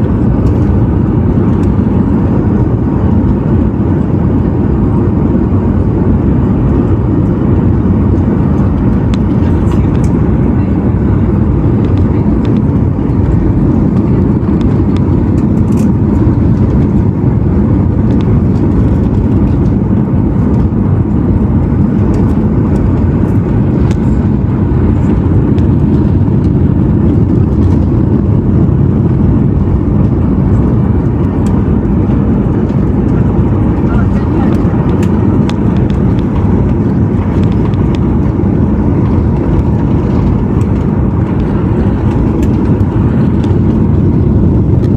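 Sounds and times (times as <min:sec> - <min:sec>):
aircraft engine drone: 0:00.0 - 0:44.9.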